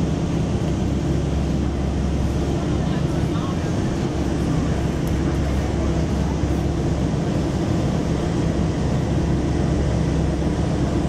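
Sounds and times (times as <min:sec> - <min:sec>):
hovercraft engines droning: 0:00.0 - 0:11.0.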